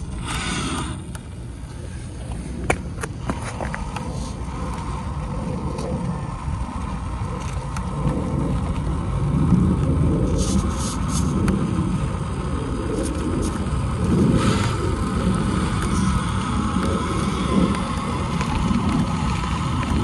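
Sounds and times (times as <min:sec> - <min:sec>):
electric motor and gears whirring: 0:00.0 - 0:20.0
wind rumble on microphone: 0:00.0 - 0:20.0.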